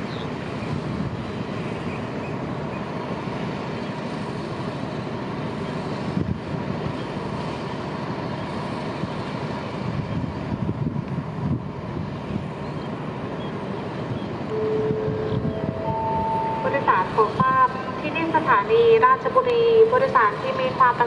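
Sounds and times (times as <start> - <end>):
diesel railcar rumbling: 0.0 - 21.0
rail noise: 0.0 - 21.0.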